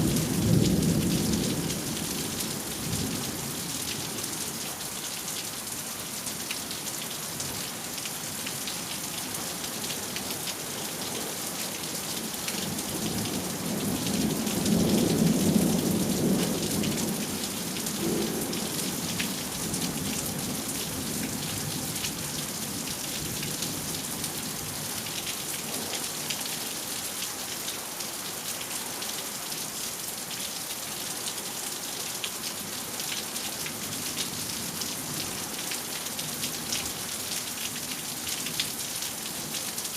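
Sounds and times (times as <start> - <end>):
steady rain on surfaces: 0.0 - 39.9.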